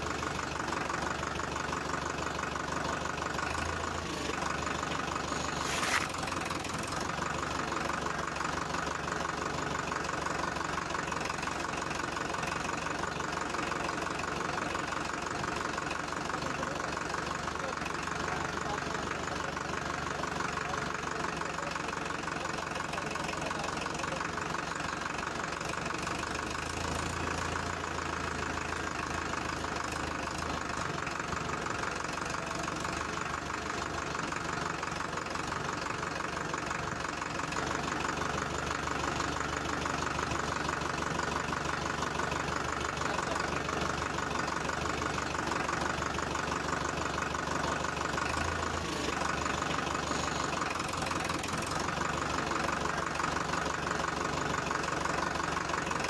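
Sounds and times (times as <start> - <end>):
mini tractor running: 0.0 - 56.0.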